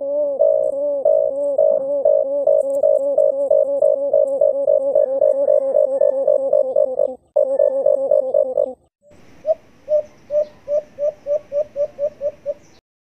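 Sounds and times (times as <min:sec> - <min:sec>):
recorded dove coos: 0:00.0 - 0:12.8
recorded low hooting: 0:00.0 - 0:12.8.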